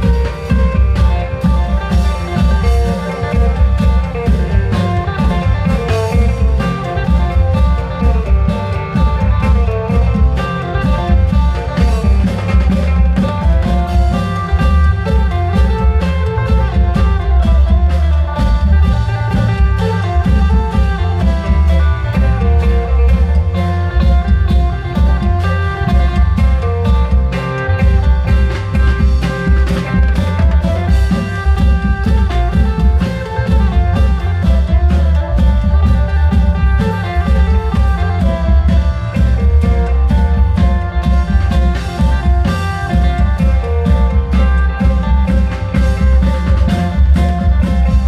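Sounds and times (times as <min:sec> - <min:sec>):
amplified plucked-string melody: 0:00.0 - 0:48.0
dense drumming with deep bass: 0:00.0 - 0:48.0.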